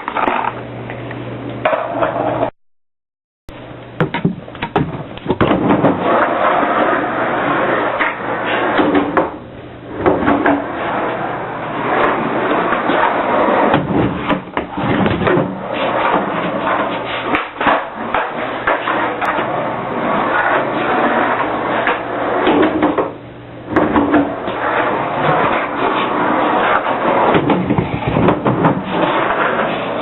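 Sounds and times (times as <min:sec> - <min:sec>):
skateboard wheels rolling: 0:00.0 - 0:00.6, 0:05.3 - 0:30.0.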